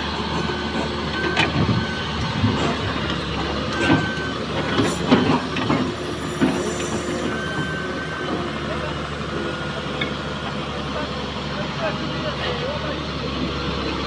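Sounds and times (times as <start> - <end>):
excavator engine under load: 0.0 - 14.0.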